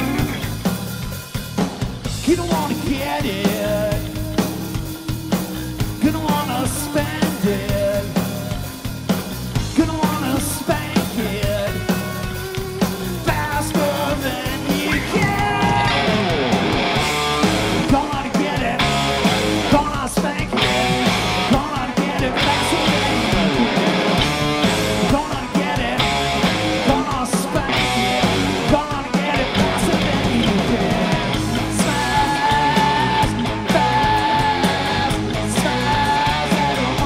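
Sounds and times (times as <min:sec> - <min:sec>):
bass guitar: 0:00.0 - 0:37.0
distorted electric guitar: 0:00.0 - 0:37.0
drum kit beat: 0:00.0 - 0:37.0.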